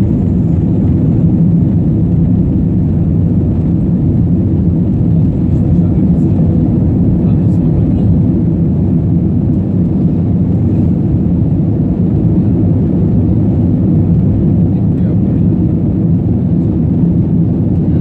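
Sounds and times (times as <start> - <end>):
jet engines roaring in cabin: 0.0 - 18.0.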